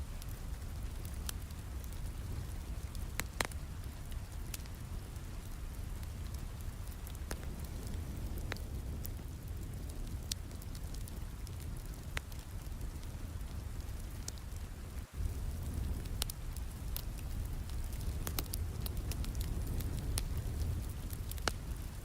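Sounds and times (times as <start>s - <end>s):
steady rain: 0.0s - 22.0s
wood fire crackling: 0.0s - 22.0s.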